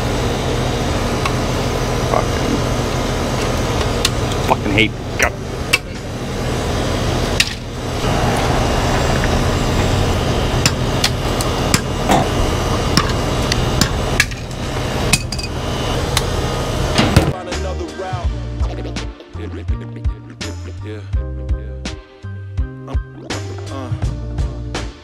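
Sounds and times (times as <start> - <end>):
steady background hum: 0.0 - 20.7.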